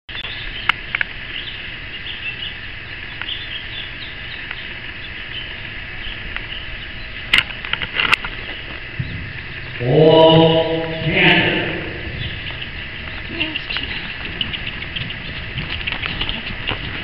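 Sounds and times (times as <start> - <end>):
small birds twittering: 0.1 - 17.0.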